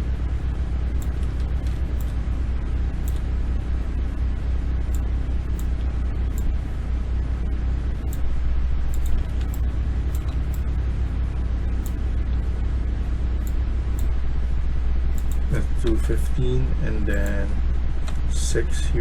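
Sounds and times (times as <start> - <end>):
low hum with faint hiss: 0.0 - 19.0.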